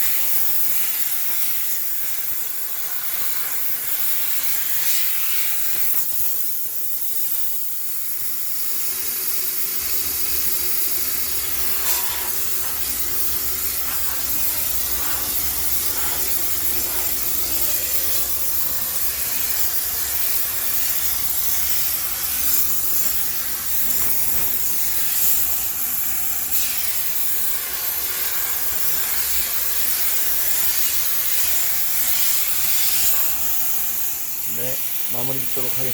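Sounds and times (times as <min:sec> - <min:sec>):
steam jet hissing: 0:00.0 - 0:35.9.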